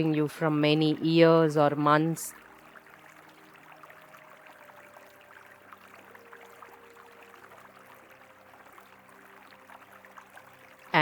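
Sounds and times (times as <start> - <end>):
river water flowing: 0.0 - 11.0
small splashes crackling: 0.0 - 11.0.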